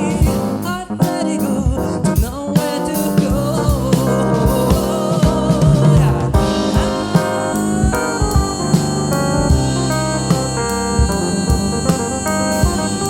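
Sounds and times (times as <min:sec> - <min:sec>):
bending lead melody: 0:00.0 - 0:13.0
drum kit strikes: 0:00.0 - 0:13.0
keyboard and bass chords: 0:00.0 - 0:13.0.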